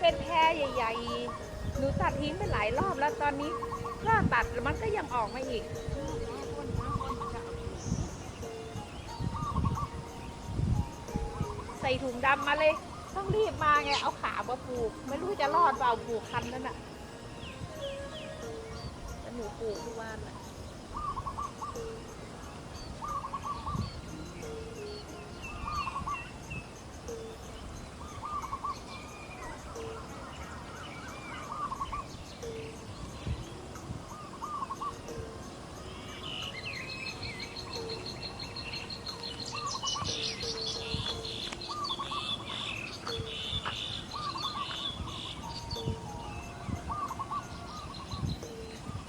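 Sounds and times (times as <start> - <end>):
bird repeating looping call: 0.0 - 49.0
birds chirping in background: 0.0 - 49.0.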